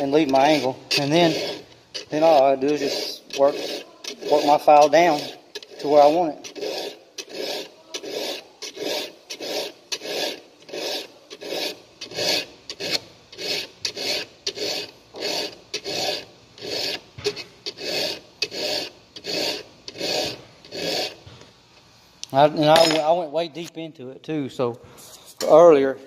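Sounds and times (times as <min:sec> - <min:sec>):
hand file rasping on chain: 0:00.0 - 0:21.2.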